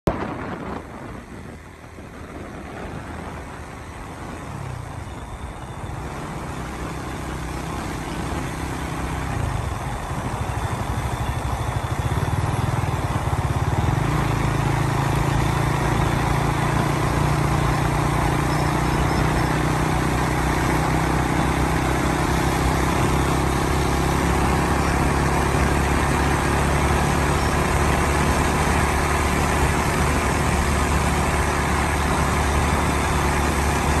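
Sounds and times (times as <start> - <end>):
motorcycle engine running: 0.1 - 34.0.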